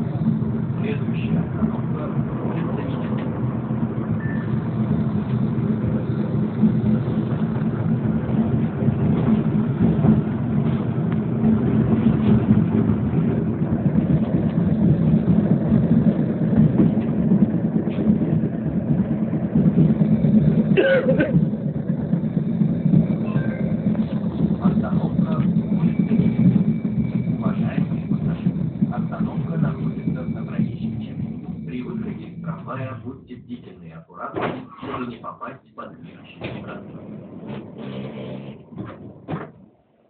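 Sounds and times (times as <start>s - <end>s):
tram wheels on rails: 0.0s - 40.0s.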